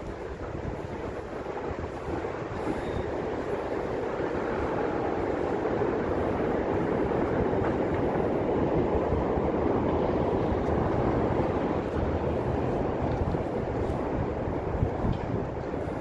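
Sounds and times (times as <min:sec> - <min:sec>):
steady rumble: 0:00.0 - 0:16.0.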